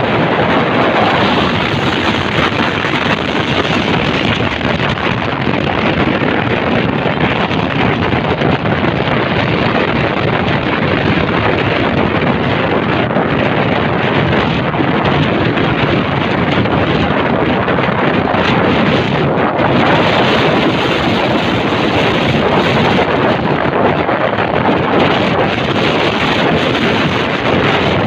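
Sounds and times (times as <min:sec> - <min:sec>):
motorcycle running: 0:00.0 - 0:28.0
wind noise on microphone: 0:00.0 - 0:28.0.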